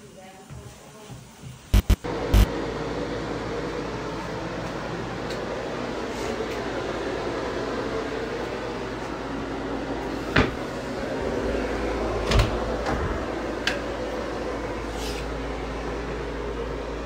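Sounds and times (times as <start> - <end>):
steady hum: 1.6 - 17.0.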